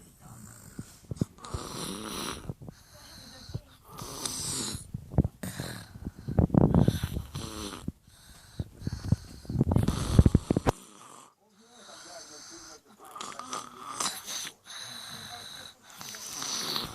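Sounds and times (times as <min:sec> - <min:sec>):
hissing breaths: 0:00.4 - 0:16.9
child snoring loudly: 0:01.4 - 0:07.9, 0:08.8 - 0:16.9.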